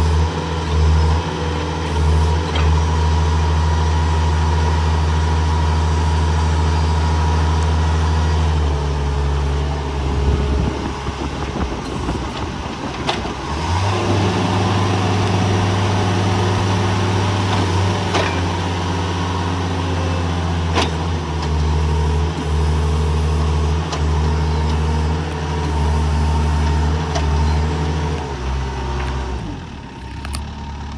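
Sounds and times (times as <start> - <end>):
forklift engine running: 0.0 - 30.9.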